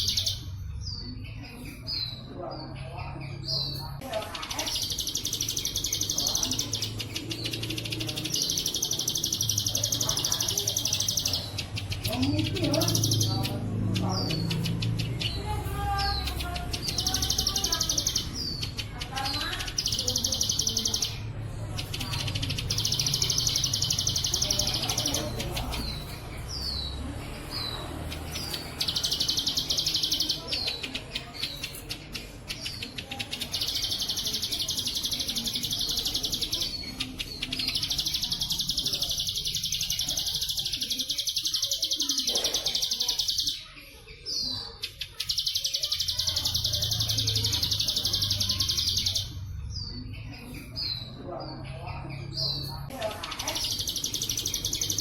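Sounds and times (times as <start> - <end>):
bird chirps: 0.0 - 55.0
bird singing buzzing trills: 3.2 - 51.1.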